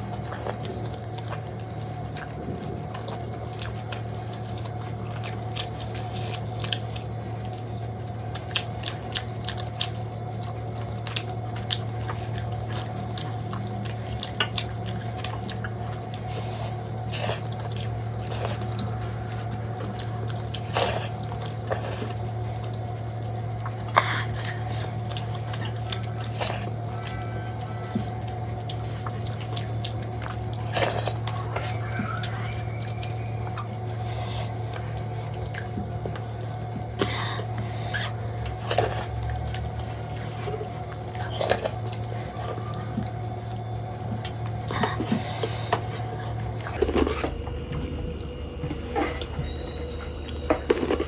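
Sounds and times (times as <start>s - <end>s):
steady low hum: 0.0s - 51.0s
wet chewing and lip-smacking: 0.0s - 51.0s.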